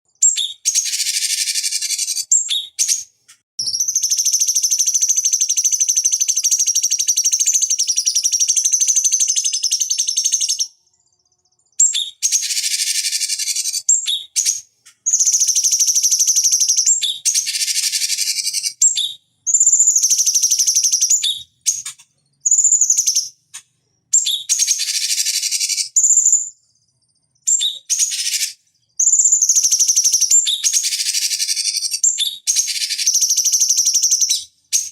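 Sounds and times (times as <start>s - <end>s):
bird chattering song: 0.1s - 34.9s.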